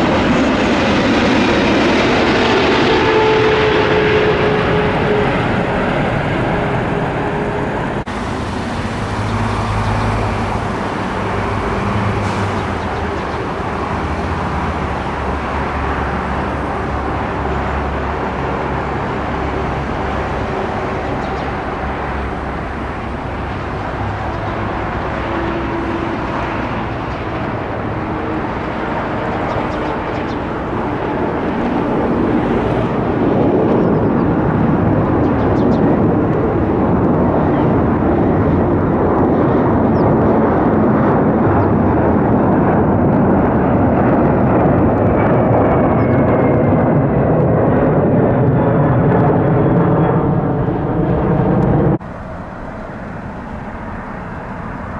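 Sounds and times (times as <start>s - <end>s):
jet climbing overhead: 0.0s - 54.9s
jet engines rushing and droning: 0.0s - 54.9s.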